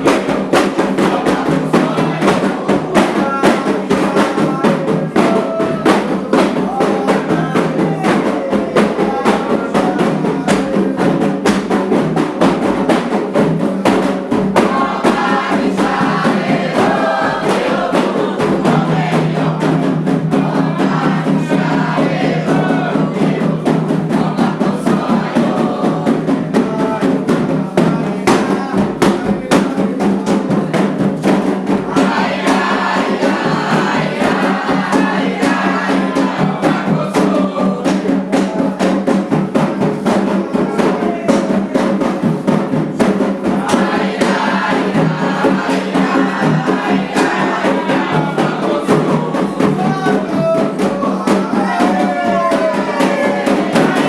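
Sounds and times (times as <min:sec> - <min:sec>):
group of voices singing: 0:00.0 - 0:54.0
hand drums fast rhythm: 0:00.0 - 0:54.0.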